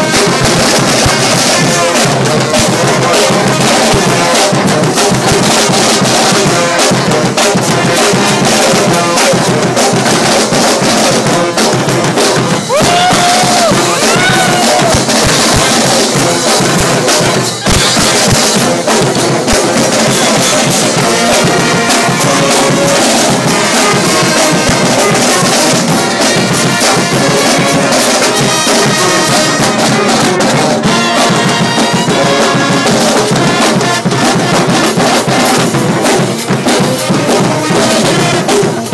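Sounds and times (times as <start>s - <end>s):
brass band playing: 0.0s - 38.9s
busy drum beat: 0.0s - 38.9s
trumpets: 0.0s - 38.9s.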